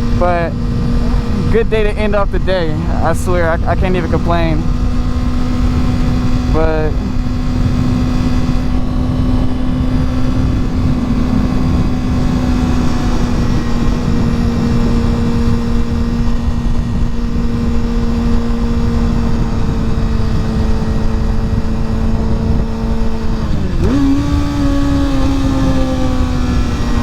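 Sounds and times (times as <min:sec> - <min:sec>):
motorcycle engine cruising: 0:00.0 - 0:27.0
wind rumble on microphone: 0:00.0 - 0:27.0.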